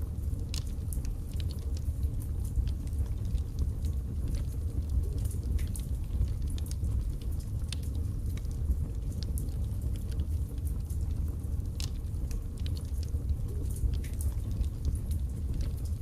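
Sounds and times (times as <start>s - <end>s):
fire burning in fireplace: 0.0s - 16.0s
fire crackling and popping: 0.0s - 16.0s.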